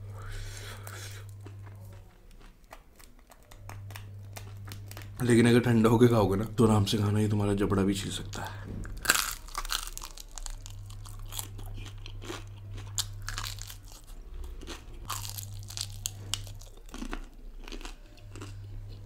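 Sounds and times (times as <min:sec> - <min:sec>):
crunchy food chewing: 0:00.4 - 0:05.9, 0:08.3 - 0:19.0.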